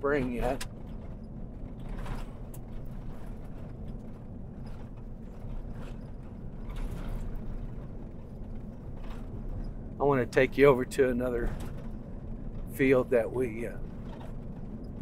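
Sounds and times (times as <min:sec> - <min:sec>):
light rattles and clicks: 0:00.0 - 0:15.0
vehicle rumble on dirt road: 0:00.0 - 0:15.0.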